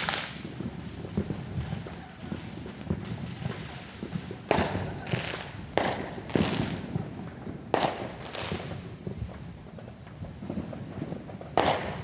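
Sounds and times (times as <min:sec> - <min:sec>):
crackling hissing firework burst: 0:00.0 - 0:12.0
fireworks bangs: 0:00.0 - 0:12.0.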